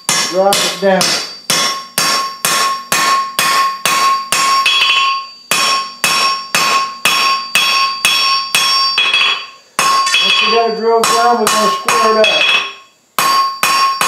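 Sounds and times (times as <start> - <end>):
anvil ringing tone: 0.0 - 14.0
hammer striking steel on anvil: 0.0 - 14.0.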